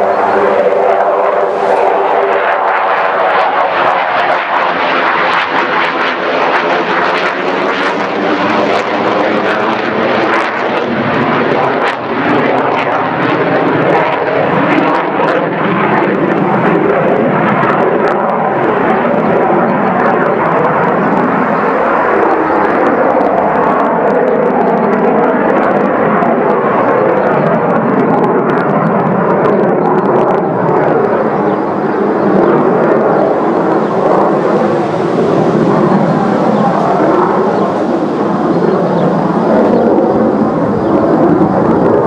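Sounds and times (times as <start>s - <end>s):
jet engine roar: 0.0s - 42.0s.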